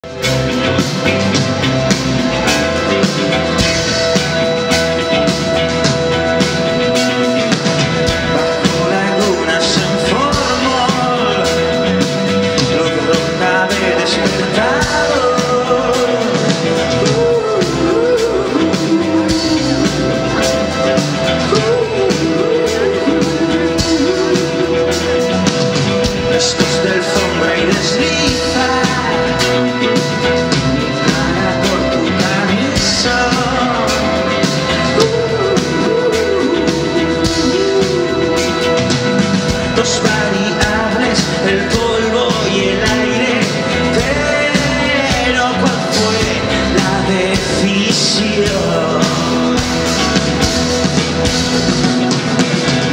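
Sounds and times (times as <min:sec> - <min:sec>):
drum kit beat: 0:00.0 - 0:52.9
live rock band: 0:00.0 - 0:52.9
person singing: 0:00.0 - 0:52.9
sliding lead guitar melody: 0:00.0 - 0:52.9.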